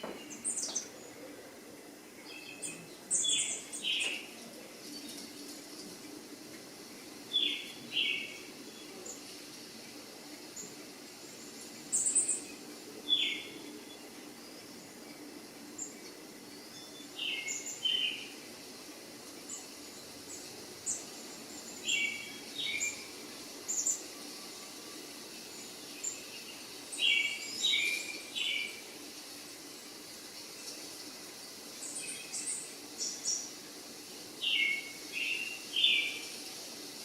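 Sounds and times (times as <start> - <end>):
birds chirping: 0.0 - 36.7.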